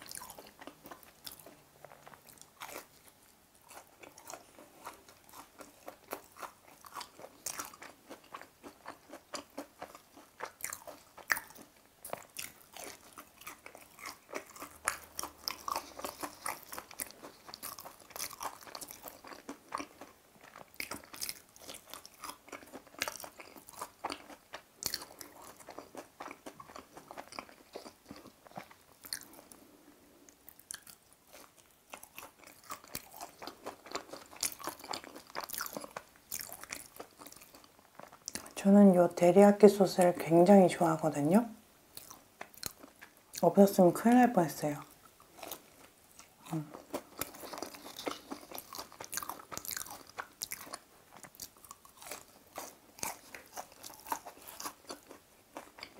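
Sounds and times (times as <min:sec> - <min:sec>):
crunching fried chicken: 0:00.0 - 0:38.6, 0:41.9 - 0:43.4, 0:45.1 - 0:55.9.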